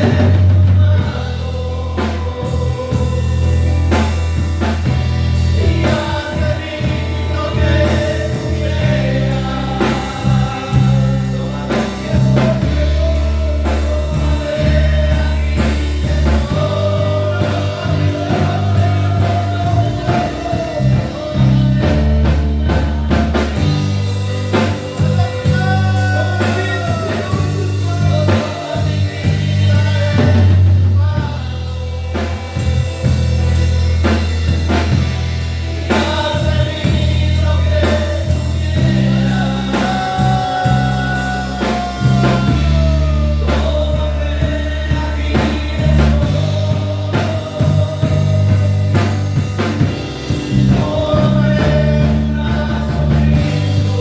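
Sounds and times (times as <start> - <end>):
person singing: 0.0 - 54.0
worship band playing: 0.0 - 54.0.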